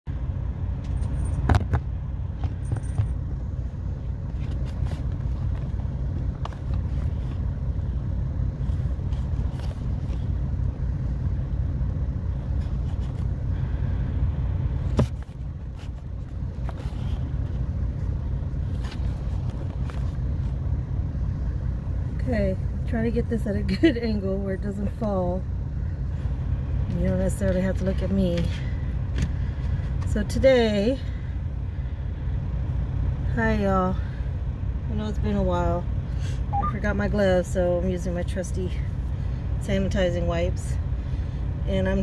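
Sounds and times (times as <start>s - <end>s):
truck engine idling: 0.1s - 42.0s.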